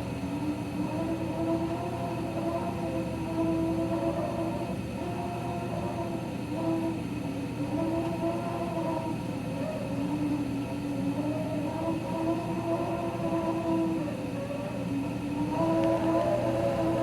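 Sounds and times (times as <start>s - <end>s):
heater whining: 0.0s - 17.0s.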